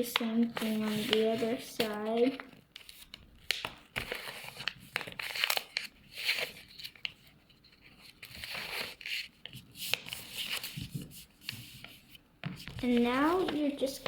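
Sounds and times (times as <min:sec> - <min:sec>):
paper crinkling and folding: 0:00.0 - 0:14.0.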